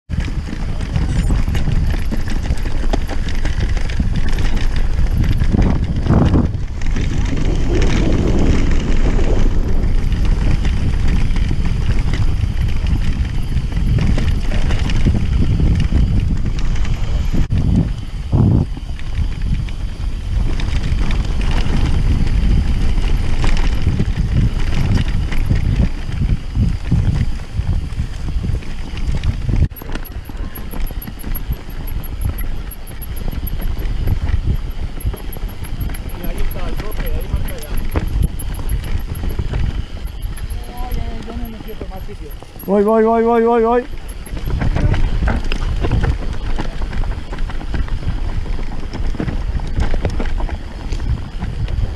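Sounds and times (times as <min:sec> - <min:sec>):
bike rattling and knocking: 0:00.1 - 0:51.9
wind buffeting microphone: 0:00.1 - 0:51.9.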